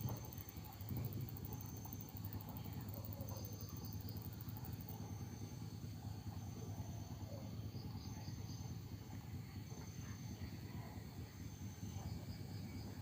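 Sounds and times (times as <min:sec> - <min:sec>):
insects trilling: 0:00.0 - 0:13.0
steady low hum: 0:00.0 - 0:13.0.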